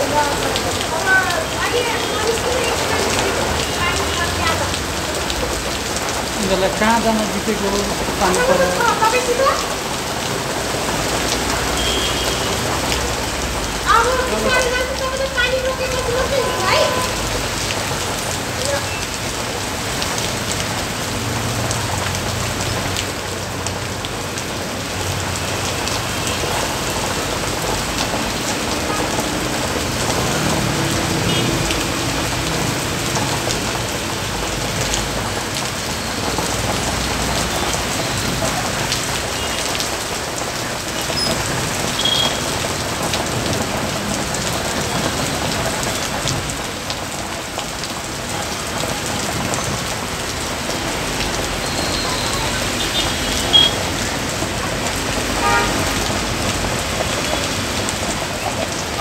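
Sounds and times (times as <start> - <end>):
heavy rain on paving and vehicles: 0.0 - 59.0.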